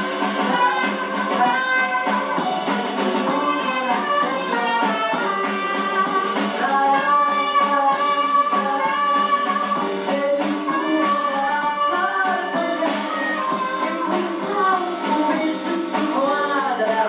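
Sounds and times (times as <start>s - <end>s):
small band playing chanson: 0.0s - 17.0s
woman singing into a microphone: 0.4s - 17.0s.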